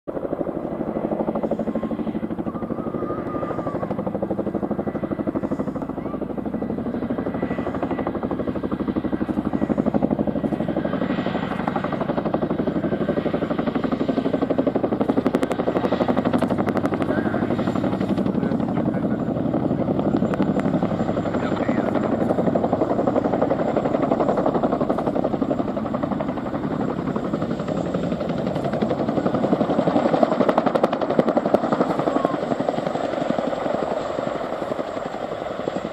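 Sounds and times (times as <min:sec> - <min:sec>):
helicopter rotors beating: 0:00.1 - 0:35.9
turbines running: 0:00.2 - 0:35.9.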